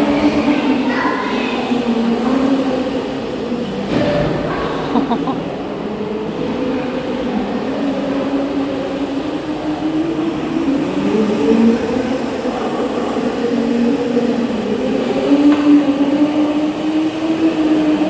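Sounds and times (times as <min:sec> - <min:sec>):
electric kart motor whine: 0:00.0 - 0:18.0.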